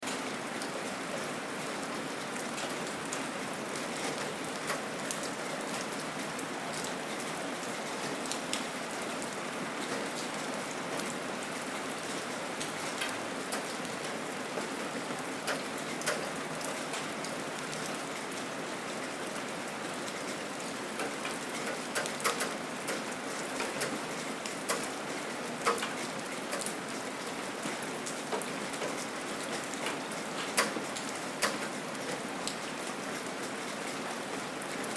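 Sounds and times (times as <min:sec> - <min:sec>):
close raindrops striking: 0:00.0 - 0:34.9
steady rain falling: 0:00.0 - 0:34.9.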